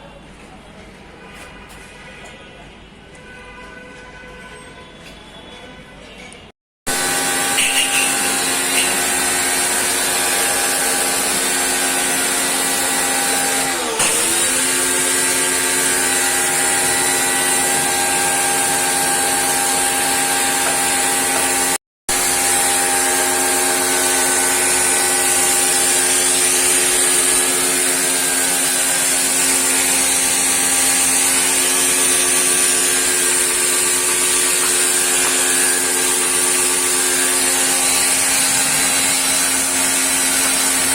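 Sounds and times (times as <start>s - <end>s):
pressure washer motor whine: 6.9s - 40.9s.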